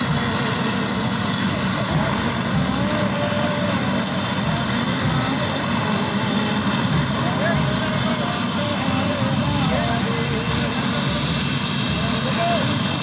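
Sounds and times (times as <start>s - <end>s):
helicopter engine whine: 0.0s - 13.0s
rotor rumble: 0.0s - 13.0s.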